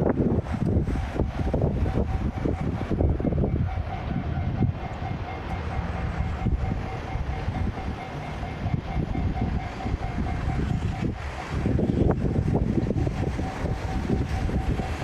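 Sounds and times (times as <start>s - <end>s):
crossing warning bell ringing: 0.9s - 15.0s.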